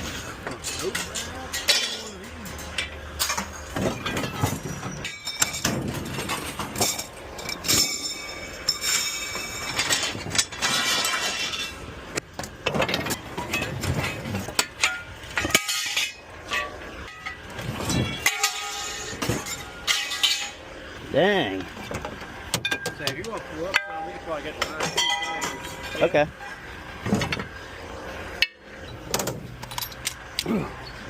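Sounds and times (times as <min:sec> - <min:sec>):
scrap metal clanking and crashing: 0:00.0 - 0:30.4.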